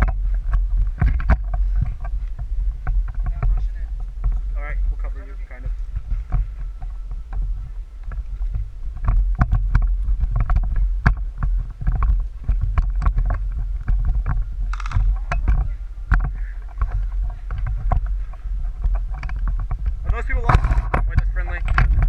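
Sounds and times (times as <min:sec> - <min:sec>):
sharp clicks and knocks: 0:00.0 - 0:22.0
wind rumble: 0:00.0 - 0:22.0.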